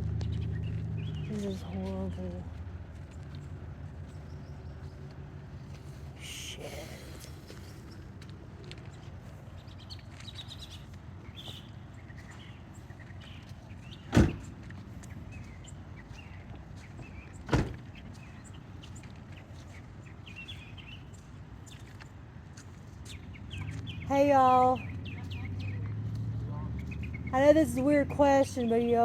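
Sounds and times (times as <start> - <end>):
vehicle rumbling slowly: 0.0 - 29.0.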